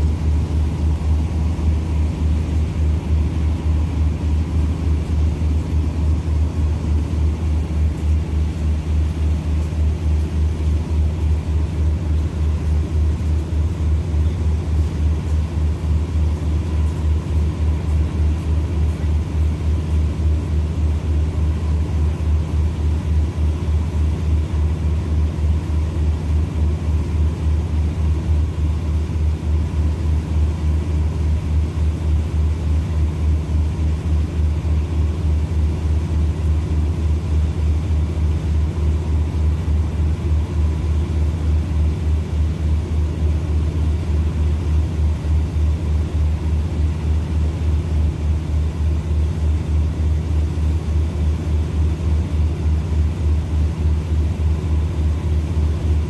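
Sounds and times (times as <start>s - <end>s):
diesel train engine idling: 0.0s - 56.0s.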